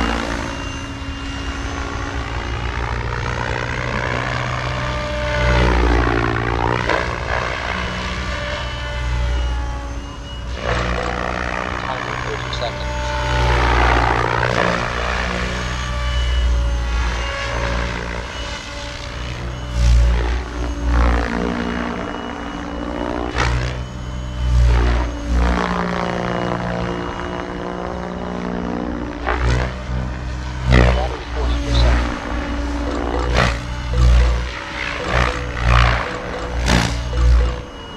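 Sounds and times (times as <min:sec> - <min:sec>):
low rotor rumble: 0:00.0 - 0:37.9
rc helicopter motor whine: 0:00.0 - 0:37.9.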